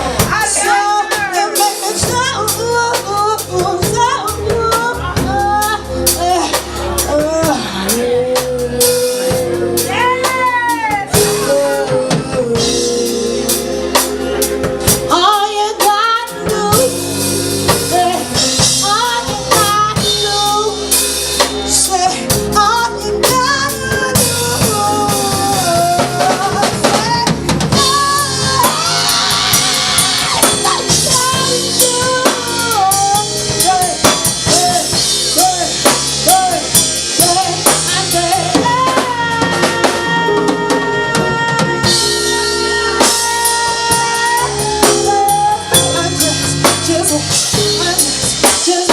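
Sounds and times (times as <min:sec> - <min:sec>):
band music: 0:00.0 - 0:48.9
drum kit beat with rimshots: 0:00.0 - 0:48.9.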